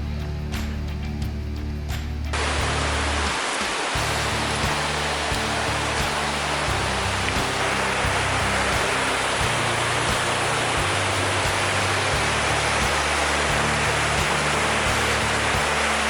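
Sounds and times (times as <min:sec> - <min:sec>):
music with low bass notes: 0:00.0 - 0:03.4, 0:04.0 - 0:16.0
waterfall rushing: 0:02.4 - 0:16.0.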